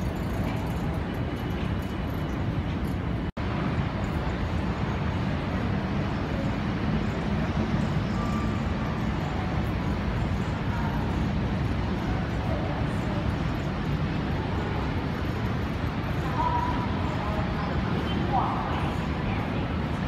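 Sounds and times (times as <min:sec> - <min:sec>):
airport concourse rumble: 0:00.0 - 0:20.0.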